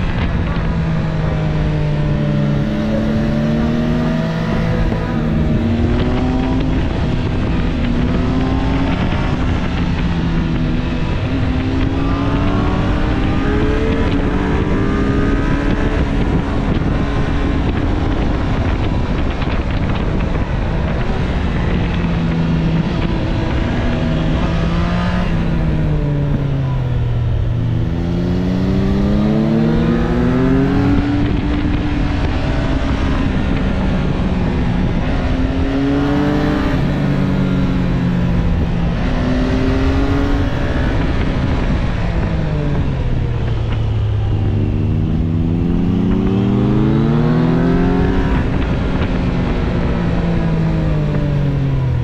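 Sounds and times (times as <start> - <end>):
motorcycle engine accelerating: 0.0 - 52.0
wind rush: 0.0 - 52.0.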